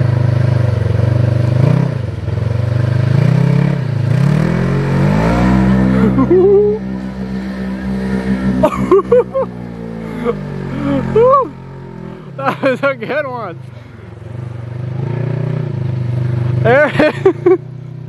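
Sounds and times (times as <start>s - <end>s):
engine working hard: 0.0s - 18.0s
vehicle ploughing through water: 0.0s - 18.0s.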